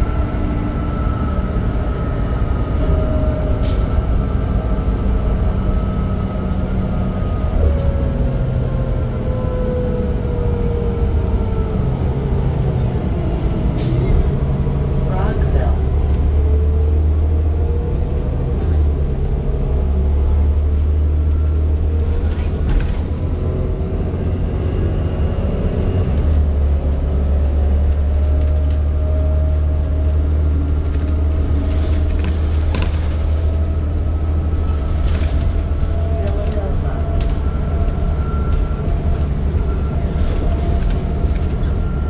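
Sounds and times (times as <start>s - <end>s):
bus engine and road drone: 0.0s - 42.0s.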